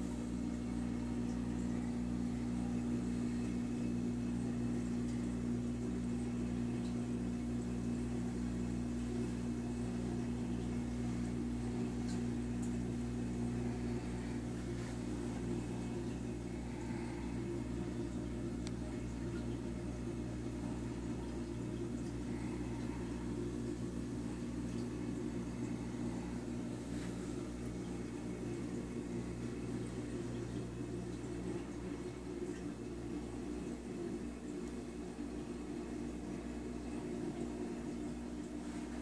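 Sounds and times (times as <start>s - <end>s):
aquarium pumps humming: 0.0s - 39.0s.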